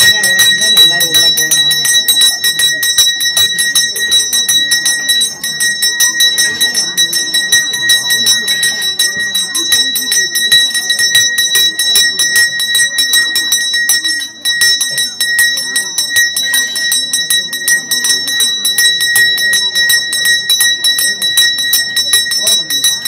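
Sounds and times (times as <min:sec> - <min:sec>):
temple bell rung rapidly: 0:00.0 - 0:23.0.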